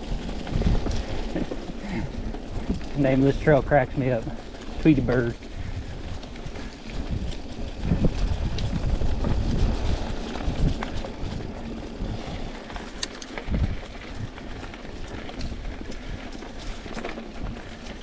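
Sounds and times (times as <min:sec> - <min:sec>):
bike clicks and rattles: 0:00.0 - 0:18.0
bike tyres rolling over dirt: 0:00.0 - 0:18.0.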